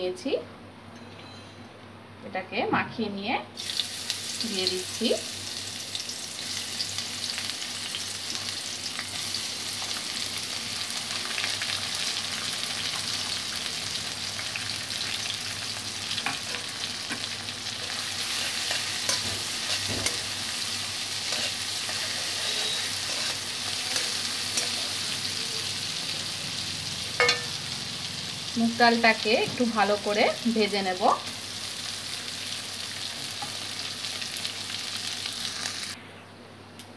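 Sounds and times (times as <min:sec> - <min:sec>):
lentils sizzling in hot oil: 0:03.6 - 0:36.0.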